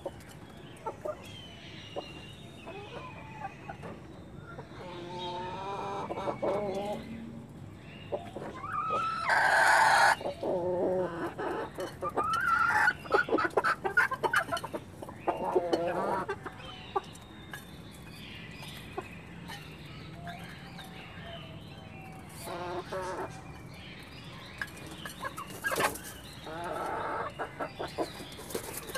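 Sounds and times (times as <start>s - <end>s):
hens clucking: 0.0s - 21.2s, 22.1s - 28.9s.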